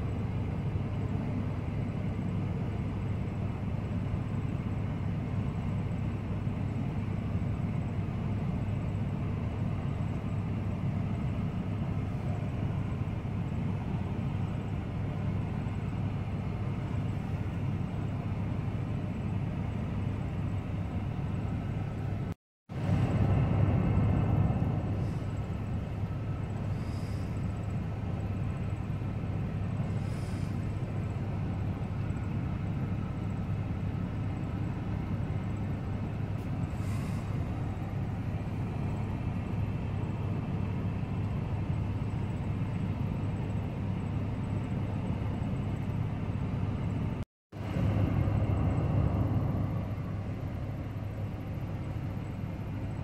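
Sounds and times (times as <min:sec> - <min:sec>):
low vehicle rumble: 0:00.0 - 0:53.0.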